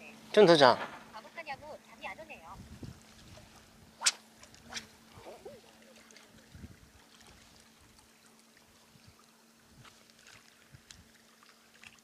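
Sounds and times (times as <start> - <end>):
faint steady hum: 0.0 - 12.0
faint water at shoreline: 0.0 - 12.0.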